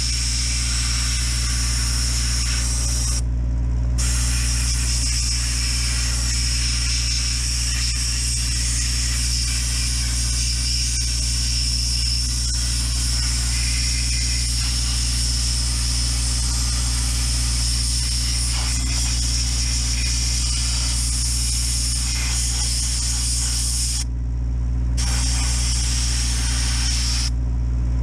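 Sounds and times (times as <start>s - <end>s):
hiss of compressed air: 0.0s - 3.2s, 4.0s - 24.0s, 25.0s - 27.3s
air compressor running: 0.0s - 28.0s.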